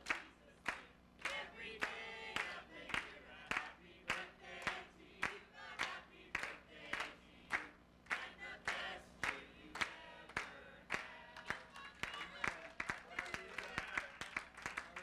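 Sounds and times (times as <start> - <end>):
voices singing and calling out: 0.0 - 14.1
congregation clapping in time: 0.0 - 15.0.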